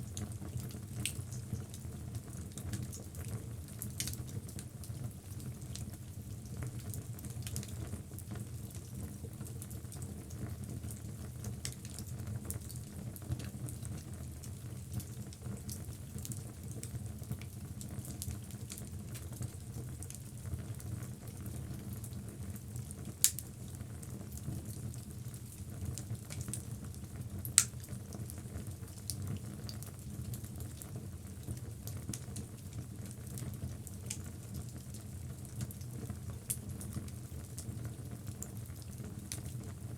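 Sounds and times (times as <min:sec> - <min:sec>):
fire rumbling and crackling: 0:00.0 - 0:39.9.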